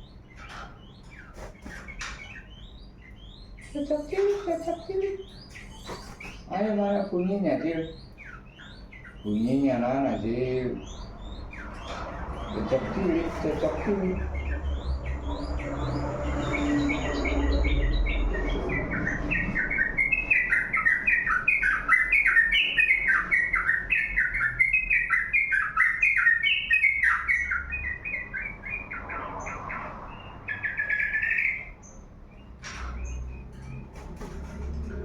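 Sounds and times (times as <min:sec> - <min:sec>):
songbird chirping: 0:00.0 - 0:35.0.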